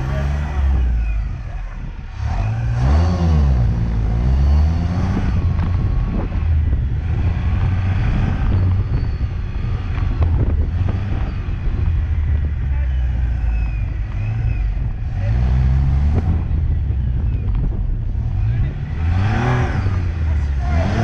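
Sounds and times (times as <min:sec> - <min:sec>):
sports car engine running: 0:00.0 - 0:21.0.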